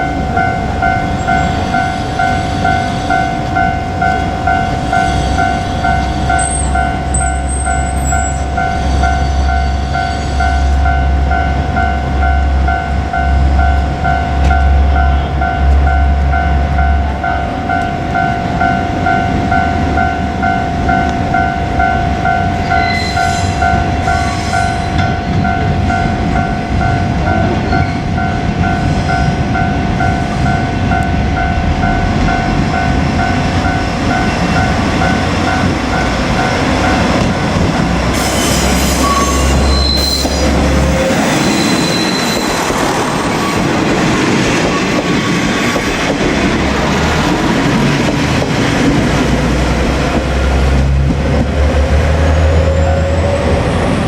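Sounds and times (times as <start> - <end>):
diesel railcar engine and wheels rumbling: 0.0 - 54.0
two-tone crossing warning bell: 0.0 - 54.0.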